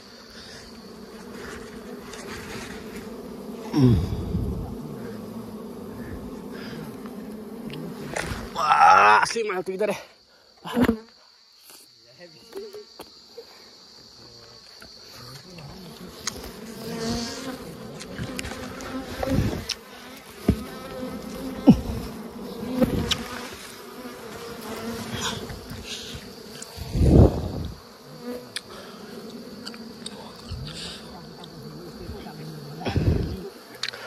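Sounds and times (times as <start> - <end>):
bees droning buzz: 0.0 - 9.4, 14.9 - 34.0.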